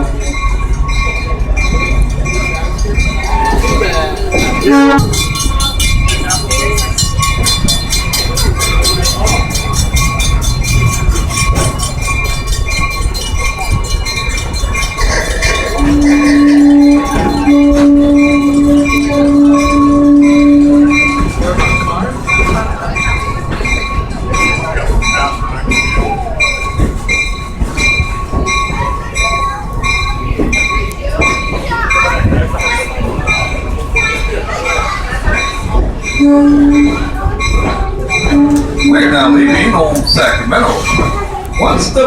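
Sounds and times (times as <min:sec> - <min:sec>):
bell ringing: 0:00.0 - 0:42.0
train rumbling and clattering: 0:00.0 - 0:42.0.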